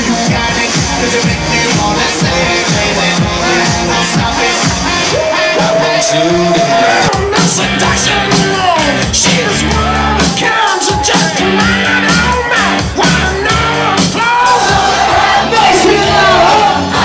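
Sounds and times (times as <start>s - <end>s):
pop dance song with vocals: 0.0s - 17.0s.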